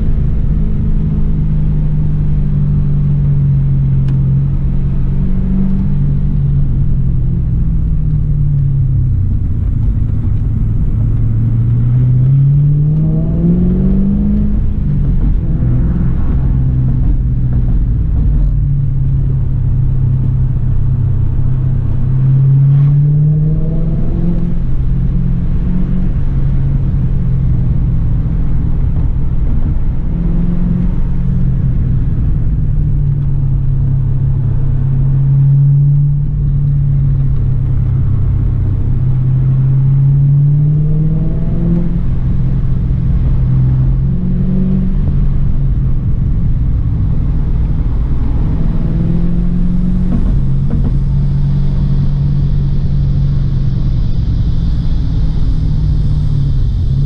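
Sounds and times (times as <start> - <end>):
car engine accelerating: 0.0 - 57.0
road and tyre noise: 0.0 - 57.0.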